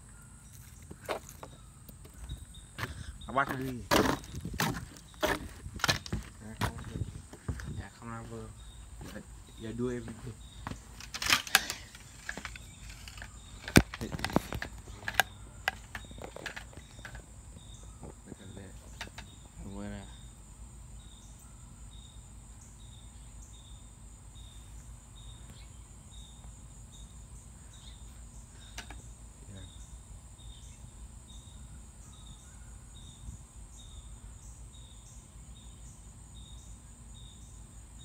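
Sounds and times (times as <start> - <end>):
crickets and insects trilling: 0.0 - 38.0.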